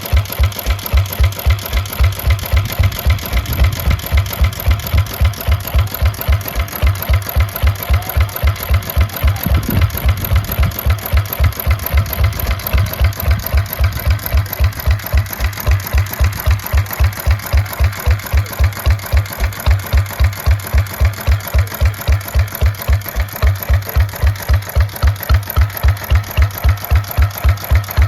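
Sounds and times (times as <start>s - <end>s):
old engine running slowly: 0.0s - 28.0s.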